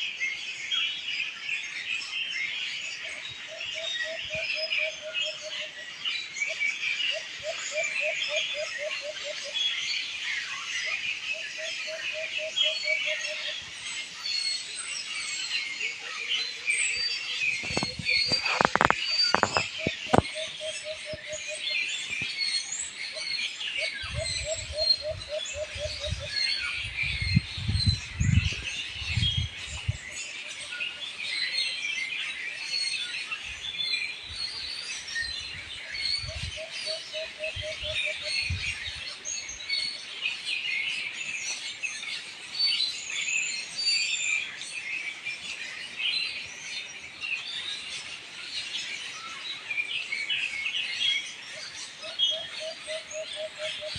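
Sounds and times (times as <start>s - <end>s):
small birds chirping and twittering: 0.0s - 53.9s.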